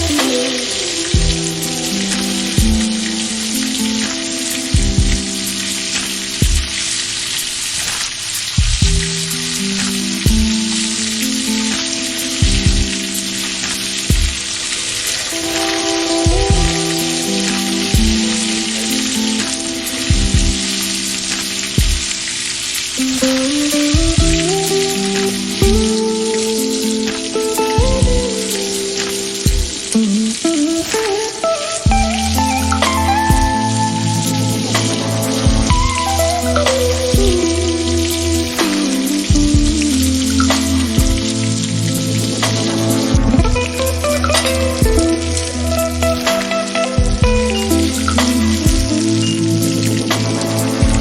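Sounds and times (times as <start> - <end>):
background music with beat: 0.0 - 51.0.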